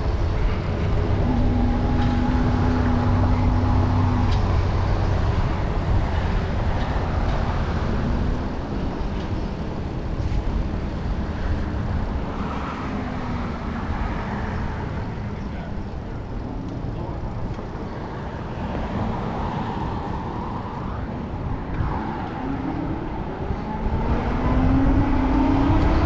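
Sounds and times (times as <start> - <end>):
passing vehicle hum: 0.0 - 26.0
road traffic passing: 0.0 - 26.0
wind rushing over microphone: 0.0 - 26.0.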